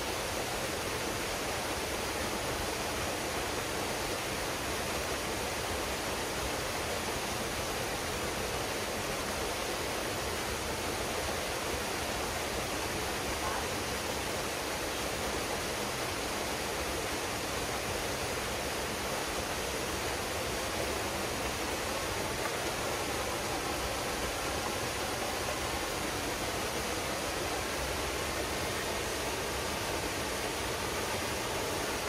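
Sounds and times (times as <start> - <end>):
waterfall pouring into pool: 0.0 - 32.0.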